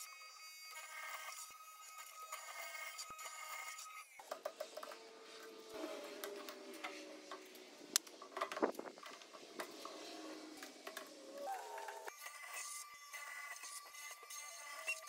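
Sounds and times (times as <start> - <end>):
motor whine: 0.0 - 15.0.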